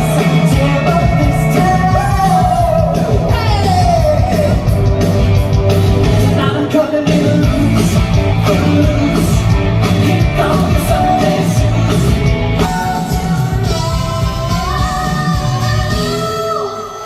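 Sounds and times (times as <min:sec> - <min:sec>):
rock music with singer: 0:00.0 - 0:17.0.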